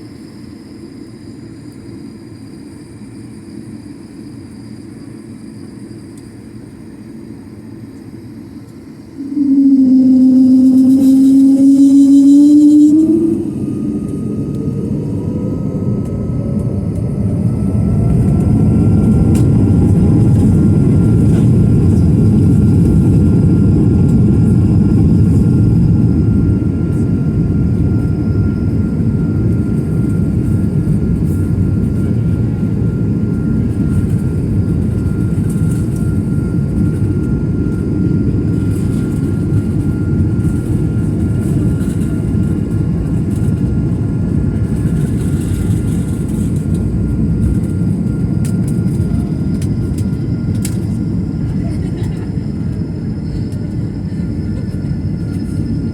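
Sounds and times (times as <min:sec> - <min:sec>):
high engine whine: 0:00.0 - 0:55.9
jet engines roaring: 0:08.9 - 0:55.9.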